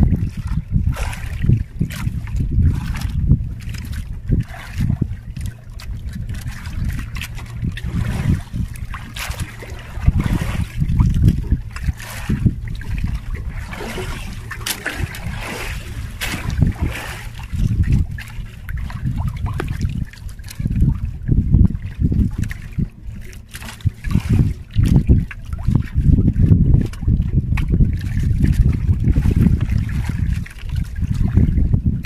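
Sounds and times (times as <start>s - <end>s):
water lapping against boat: 0.0s - 32.0s
wind buffeting microphone: 0.0s - 32.0s.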